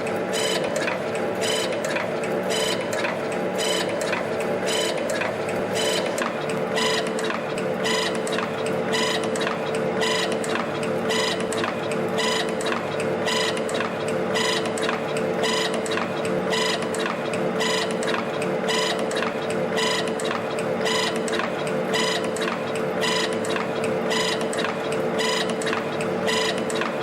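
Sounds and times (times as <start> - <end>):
light machine clicks: 0.0 - 27.0.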